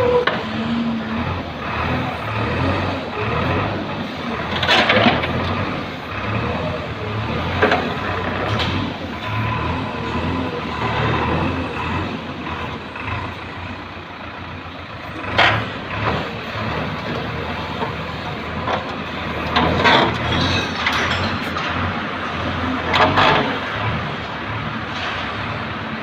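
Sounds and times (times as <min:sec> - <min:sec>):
backhoe engine digging: 0:00.0 - 0:26.0.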